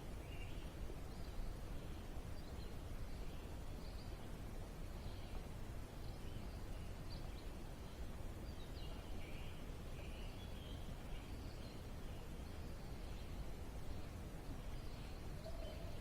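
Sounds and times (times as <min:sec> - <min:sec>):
faint bird chirps: 0:00.1 - 0:16.0.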